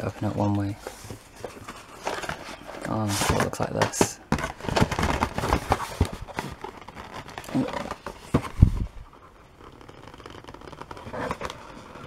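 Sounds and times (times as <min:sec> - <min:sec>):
cardboard scraping and rustling: 0:00.0 - 0:09.0, 0:09.6 - 0:12.0.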